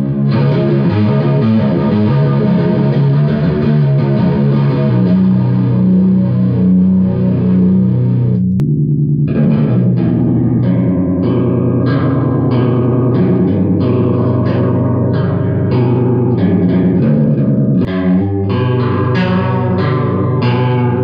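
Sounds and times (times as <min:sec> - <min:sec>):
electric guitar strumming chords: 0:00.0 - 0:21.0.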